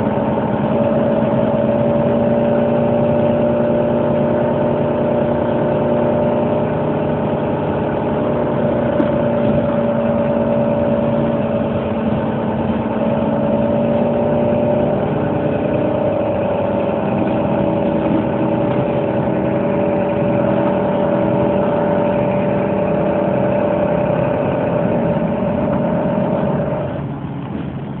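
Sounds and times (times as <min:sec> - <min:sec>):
engine droning: 0:00.0 - 0:28.0.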